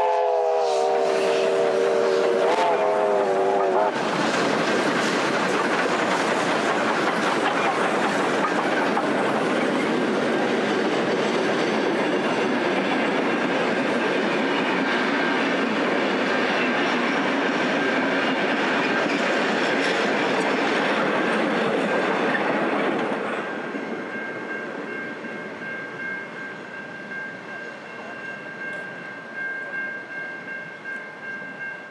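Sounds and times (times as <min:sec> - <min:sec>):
steam locomotive exhaust: 0:00.0 - 0:31.9
train wheels on rail joints: 0:00.0 - 0:31.9.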